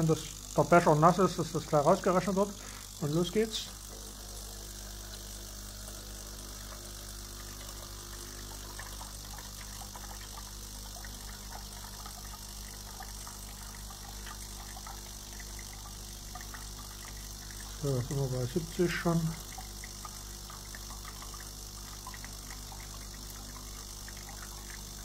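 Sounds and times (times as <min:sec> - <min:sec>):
electric water pump humming: 0:00.0 - 0:25.0.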